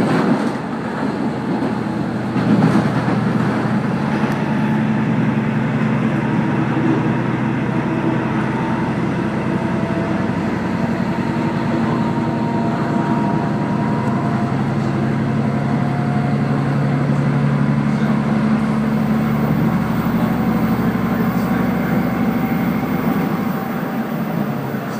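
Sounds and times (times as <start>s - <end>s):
diesel engine drone: 0.0s - 24.9s
wheels rumbling on rails: 0.0s - 24.9s.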